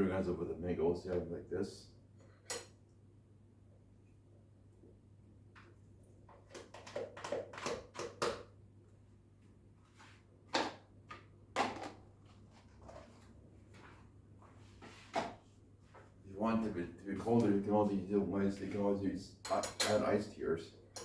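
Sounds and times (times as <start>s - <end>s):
steady low electrical hum: 0.0s - 6.5s, 8.4s - 21.0s.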